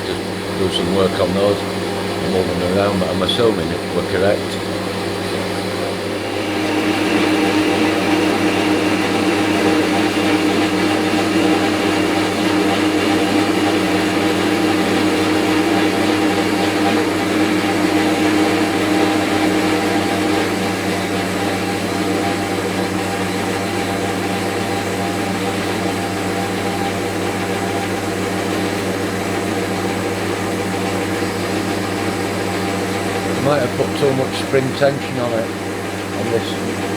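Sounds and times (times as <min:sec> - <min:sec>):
metal-cutting bandsaw running: 0:00.0 - 0:36.9.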